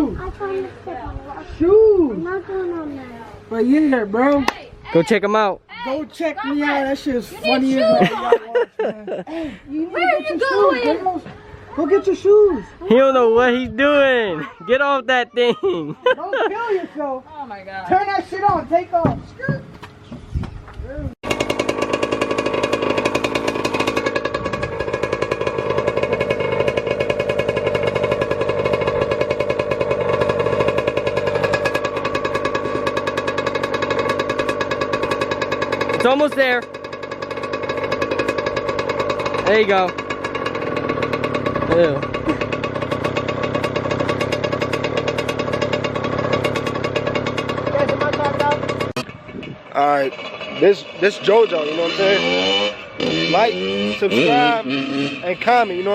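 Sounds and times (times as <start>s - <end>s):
dirt bike engine idling: 0.0s - 20.1s, 21.2s - 55.9s.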